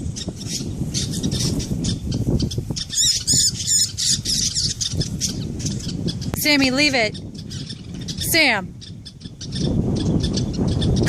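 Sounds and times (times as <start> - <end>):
steady low rumbling noise: 0.0 - 11.0.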